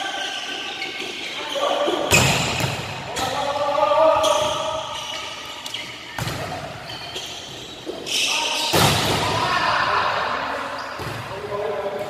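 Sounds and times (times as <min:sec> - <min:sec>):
volleyballs hit and bouncing: 0:00.2 - 0:03.5, 0:04.1 - 0:09.6, 0:10.9 - 0:12.0.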